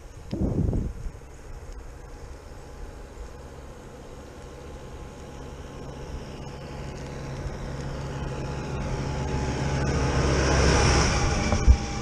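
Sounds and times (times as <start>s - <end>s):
tractor engine approaching: 0.0s - 12.0s.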